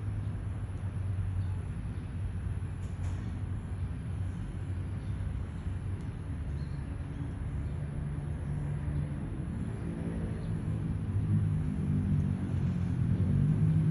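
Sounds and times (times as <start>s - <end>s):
vehicle engine rumble: 0.0s - 13.9s.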